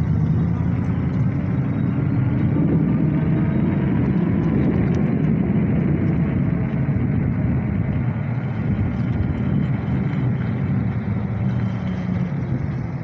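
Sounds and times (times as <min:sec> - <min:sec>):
tyres on wet asphalt: 0:00.0 - 0:13.0
wind on microphone: 0:00.0 - 0:13.0.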